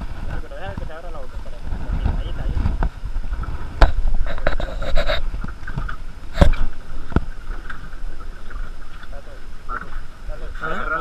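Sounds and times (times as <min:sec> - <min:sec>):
wind rumble on microphone: 0:00.0 - 0:10.7.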